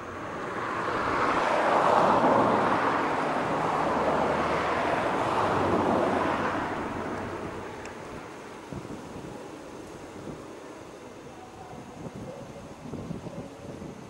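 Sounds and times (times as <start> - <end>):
jet engines rushing: 0.0 - 13.4.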